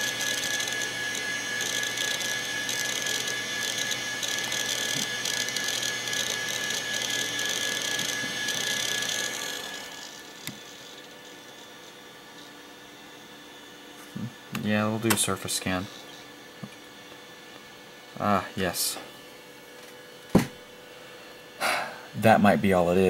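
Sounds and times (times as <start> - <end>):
hard drive high whine: 0.0 - 23.0.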